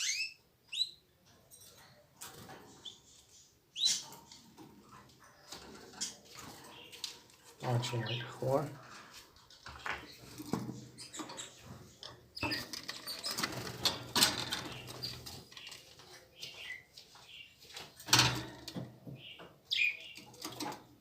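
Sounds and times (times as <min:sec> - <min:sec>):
birds fluttering in a cage: 0:01.2 - 0:21.0.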